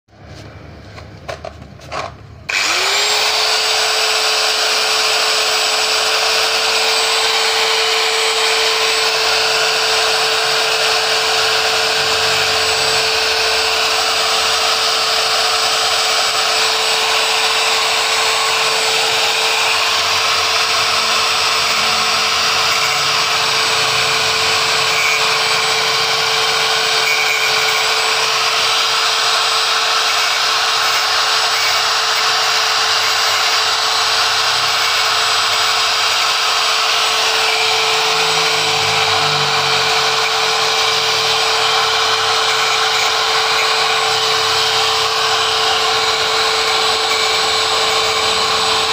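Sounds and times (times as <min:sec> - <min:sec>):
angle grinder whining: 0:00.2 - 0:48.9.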